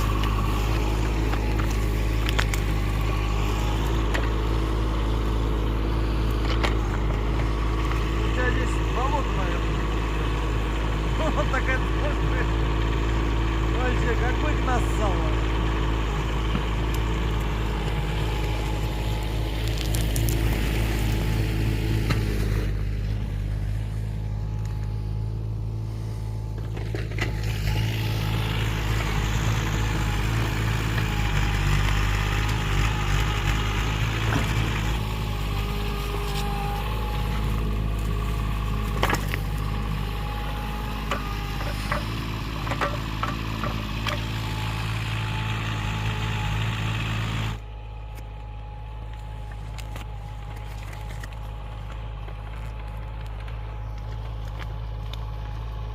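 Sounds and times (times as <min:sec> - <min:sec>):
excavator engine running: 0:00.0 - 0:55.9.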